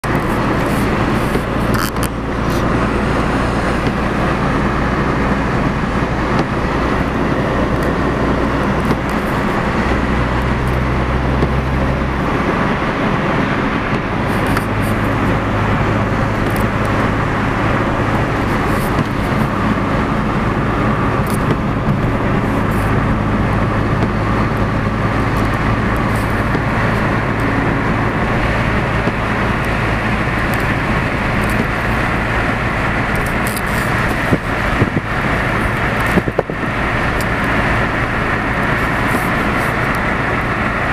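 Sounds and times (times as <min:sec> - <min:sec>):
car road noise from inside: 0:00.0 - 0:40.9
low engine drone: 0:00.0 - 0:40.9.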